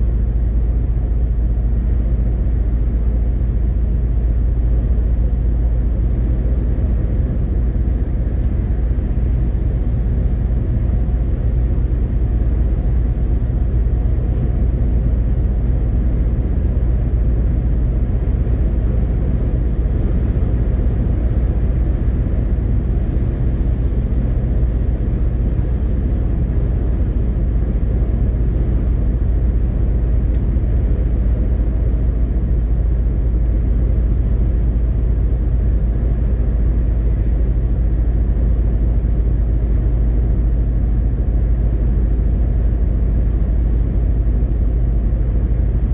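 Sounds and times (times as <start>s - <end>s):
truck diesel engine and road rumble: 0.0s - 45.9s.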